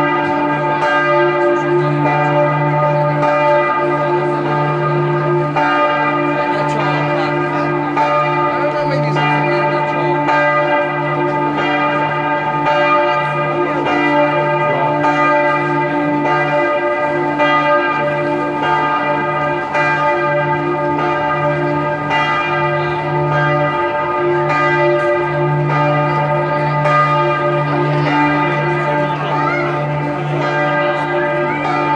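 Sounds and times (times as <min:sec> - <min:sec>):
large tower bell ringing: 0:00.0 - 0:31.9.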